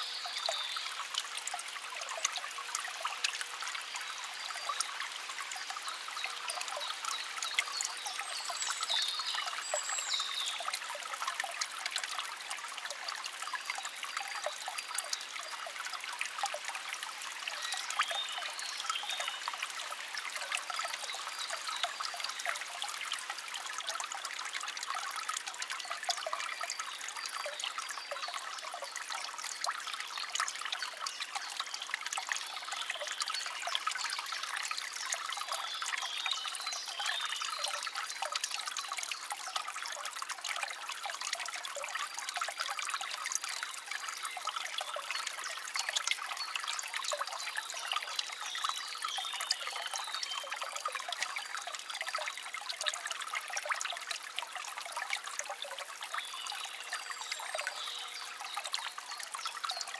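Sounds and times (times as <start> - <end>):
water trickling in a brook: 0.0 - 59.9.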